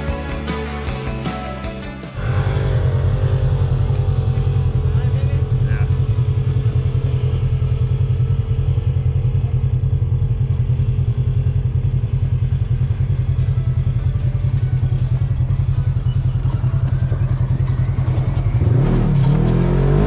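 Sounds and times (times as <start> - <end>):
engine running at low speed: 0.0 - 20.0.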